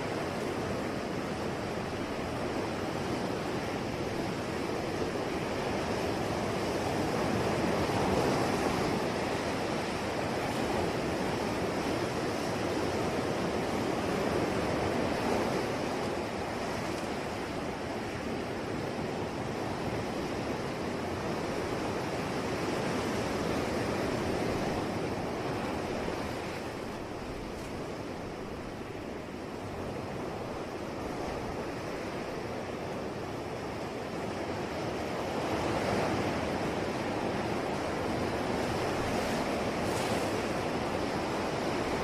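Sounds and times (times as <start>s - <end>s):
ocean waves washing on shore: 0.0s - 42.0s.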